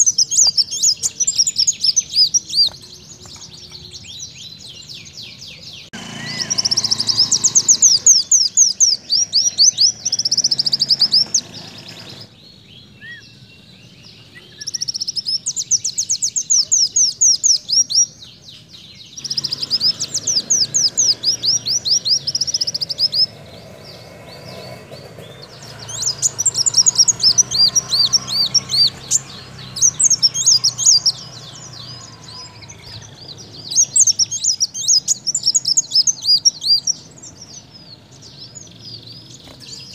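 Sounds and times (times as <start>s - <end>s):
bird singing high trills: 0.0s - 39.9s.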